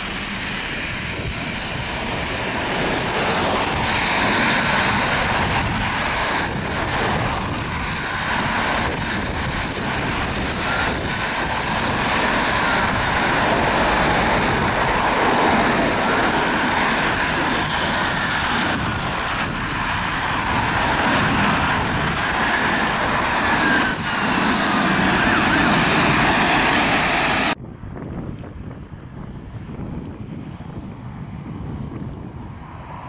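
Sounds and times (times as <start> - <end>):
traffic and tyres on wet road: 0.0 - 33.0
wind noise: 0.0 - 33.0.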